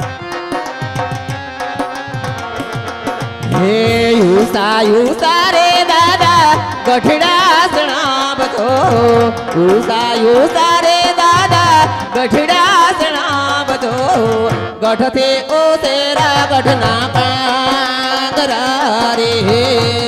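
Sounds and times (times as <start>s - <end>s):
hand drum beats: 0.0s - 20.0s
keyboard accompaniment: 0.0s - 20.0s
person singing folk melody: 2.5s - 20.0s.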